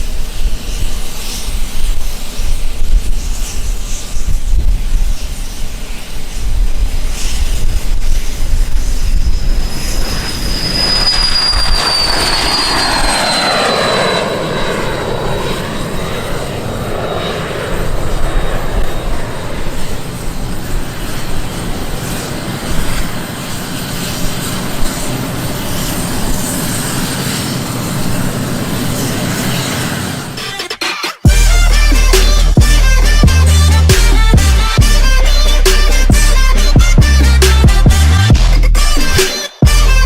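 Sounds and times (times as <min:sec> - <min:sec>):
aircraft engine rush: 0:00.0 - 0:40.0
aircraft engine whine: 0:00.0 - 0:40.0.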